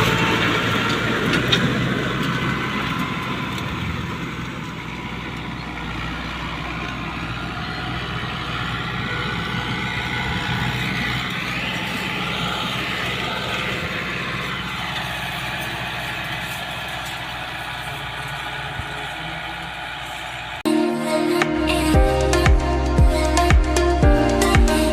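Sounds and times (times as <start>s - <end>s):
tractor diesel engine running: 0.0s - 20.7s, 21.7s - 24.9s.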